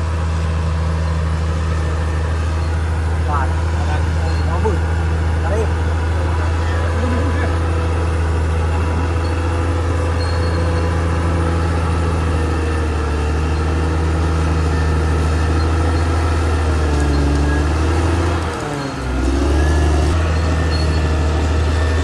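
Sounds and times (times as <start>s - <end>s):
bulldozer diesel engine drone: 0.0s - 22.0s.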